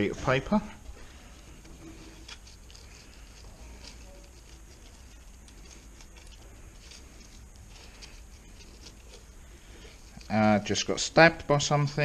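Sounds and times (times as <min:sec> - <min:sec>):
hands handling small parts and paper: 0:00.0 - 0:12.0
low steady hum: 0:00.0 - 0:12.0.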